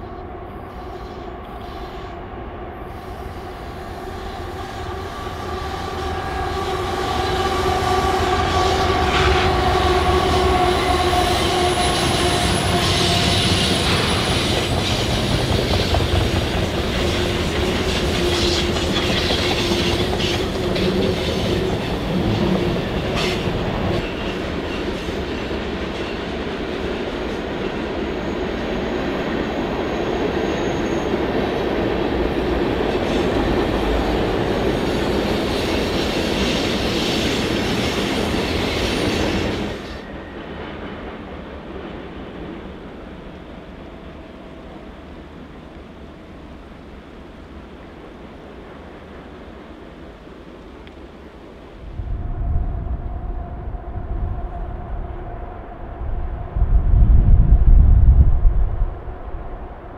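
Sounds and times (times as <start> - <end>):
diesel locomotive whine: 0.0 - 59.9.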